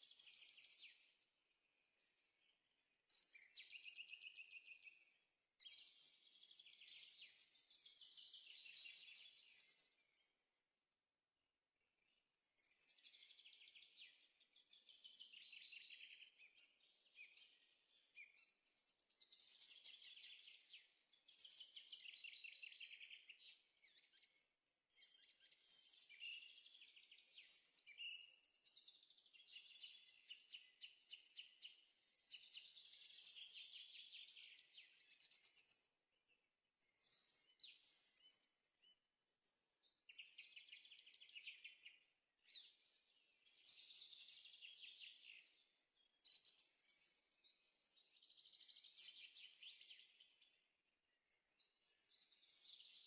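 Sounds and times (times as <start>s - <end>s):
faint songbird trills and chirps: 0.0s - 53.0s.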